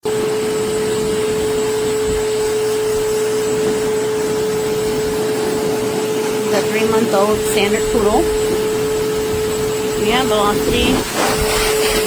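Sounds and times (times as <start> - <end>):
dog dryer air rush: 0.0 - 12.0
motor whine: 0.0 - 12.0.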